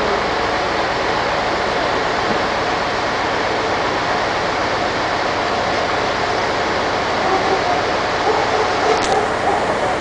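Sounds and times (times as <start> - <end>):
heavy machinery rumble and hiss: 0.0 - 10.0.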